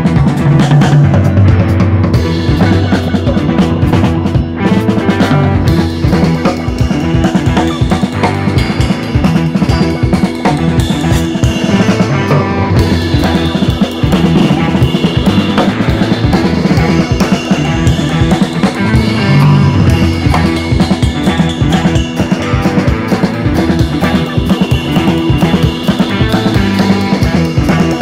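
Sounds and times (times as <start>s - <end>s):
rock music with drum beat: 0.0s - 28.0s.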